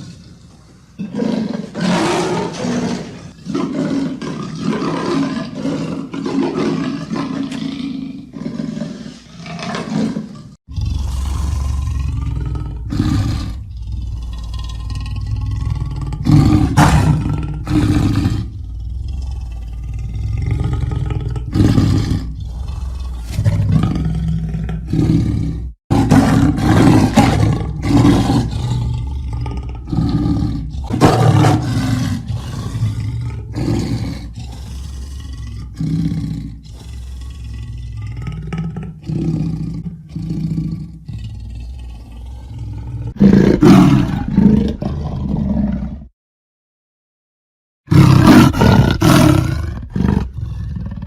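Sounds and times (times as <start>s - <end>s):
leopard roaring: 0.0s - 46.1s, 47.9s - 51.0s.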